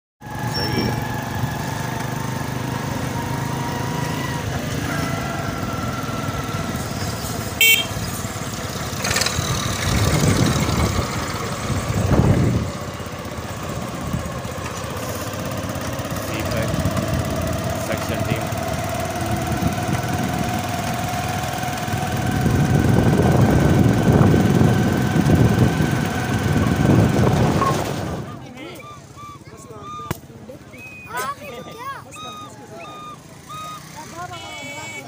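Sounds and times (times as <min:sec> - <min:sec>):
motorcycle engine running: 0:00.2 - 0:29.0.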